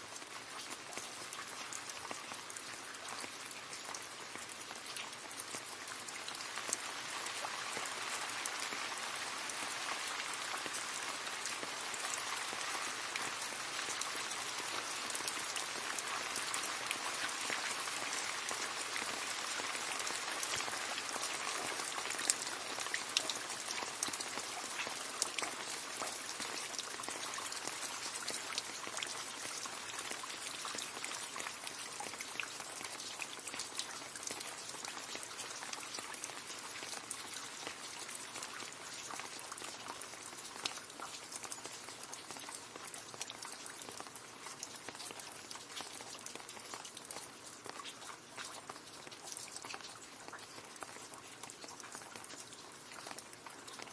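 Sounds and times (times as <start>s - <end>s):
rain pattering into a puddle: 0.0s - 53.9s.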